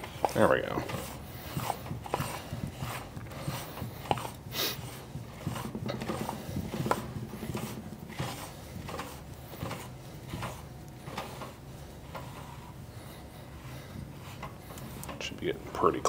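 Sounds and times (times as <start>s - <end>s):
grinder ring threads rubbing: 0.0s - 16.0s.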